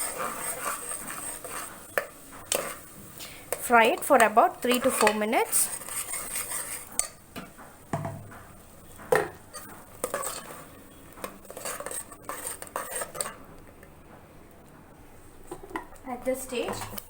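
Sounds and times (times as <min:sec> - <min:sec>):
paste frying: 0:00.0 - 0:13.9
spoon stirring and scraping pot: 0:00.0 - 0:13.9, 0:15.4 - 0:17.0.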